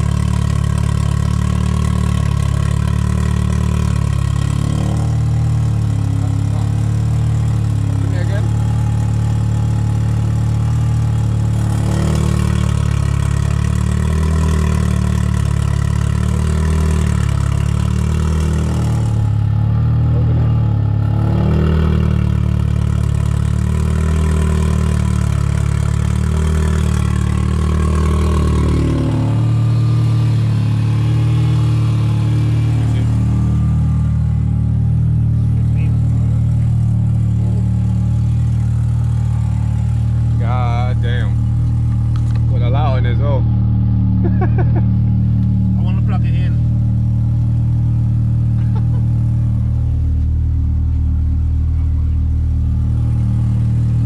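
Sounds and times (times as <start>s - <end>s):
car engine idling loudly: 0.0s - 54.0s.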